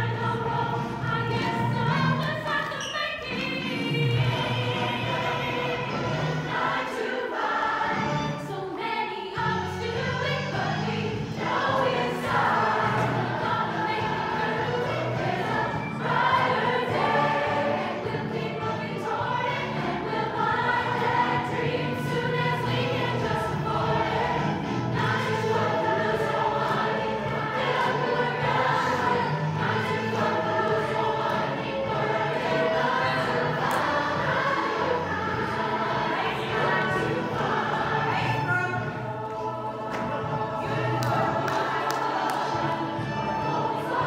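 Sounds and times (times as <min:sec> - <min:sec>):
group singing with accompaniment: 0:00.0 - 0:44.0.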